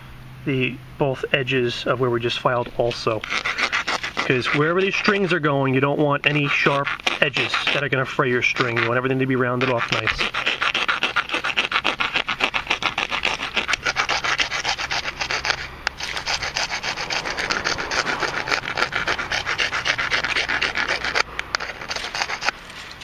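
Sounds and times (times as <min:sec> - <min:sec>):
hand file rasping on plastic pipe: 0:03.0 - 0:22.6.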